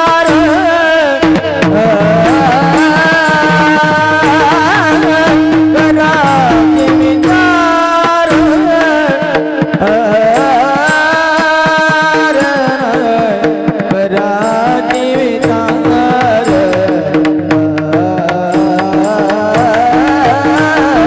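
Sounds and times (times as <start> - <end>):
man singing with held notes: 0.0 - 21.0.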